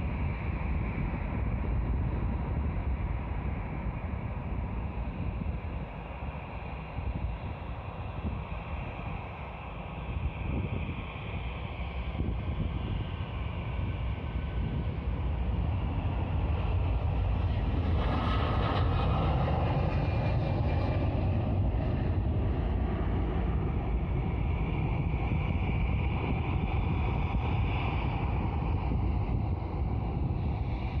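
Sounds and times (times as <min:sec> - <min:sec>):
jet engines at take-off power: 0:00.0 - 0:31.0.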